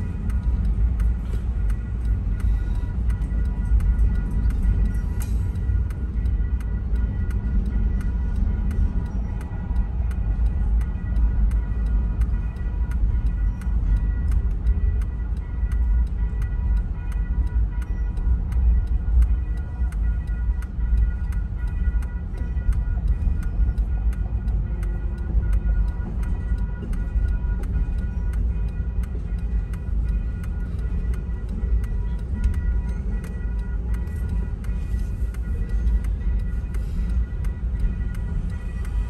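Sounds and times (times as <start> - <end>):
freight train rumbling: 0.0 - 39.0
railroad crossing bell ringing: 0.0 - 39.0.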